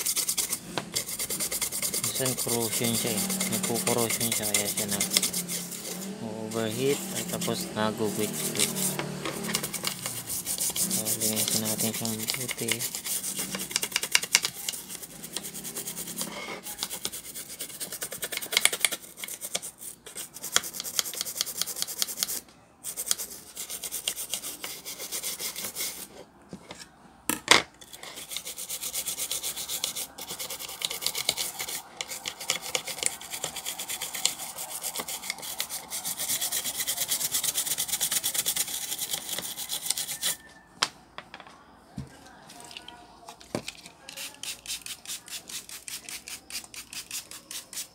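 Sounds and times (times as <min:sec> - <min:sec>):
toothbrush scrubbing circuit board: 0:00.0 - 0:26.1, 0:27.8 - 0:40.5, 0:44.1 - 0:47.9.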